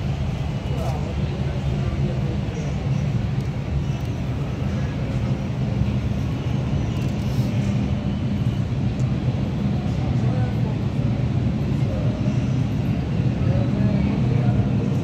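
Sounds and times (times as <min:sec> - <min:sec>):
subway station rumble and hum: 0:00.0 - 0:15.0.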